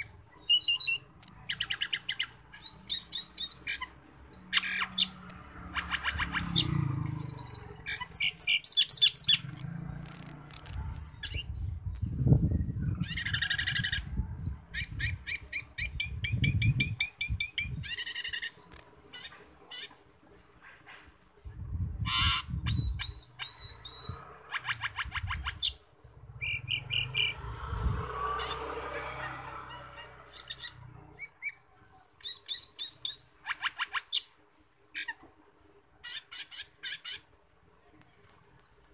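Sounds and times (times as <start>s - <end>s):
starling calling and chattering: 0.0s - 38.9s.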